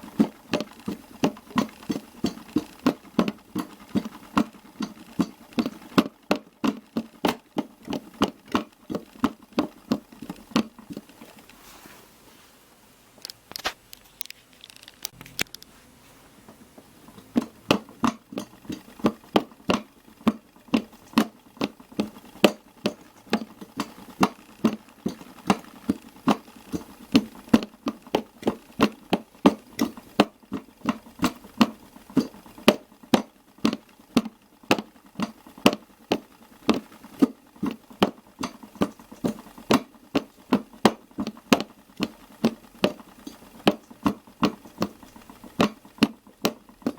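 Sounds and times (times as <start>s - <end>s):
washing machine knocking: 0.0s - 11.2s, 16.5s - 46.9s
washing machine clicks: 0.0s - 11.5s, 16.5s - 46.9s.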